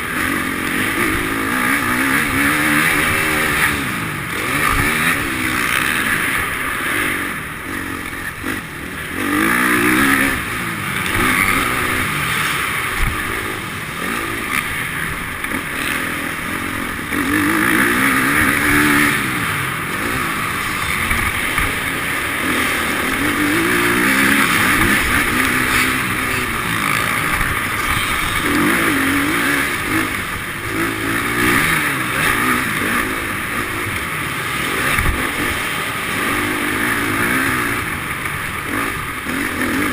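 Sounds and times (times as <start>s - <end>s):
motocross motorcycle engines revving: 0.0s - 39.9s.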